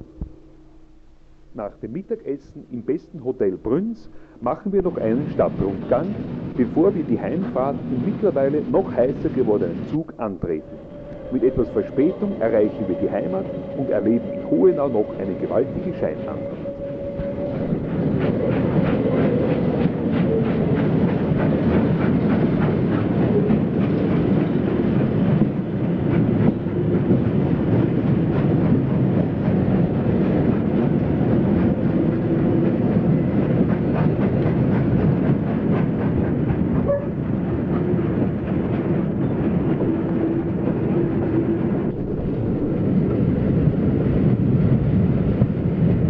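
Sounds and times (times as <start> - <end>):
train rolling noise: 0.0 - 46.0.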